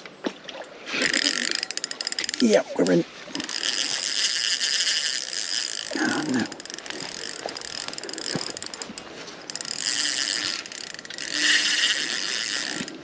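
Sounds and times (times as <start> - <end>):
fishing reel drag clicking: 1.0 - 13.0.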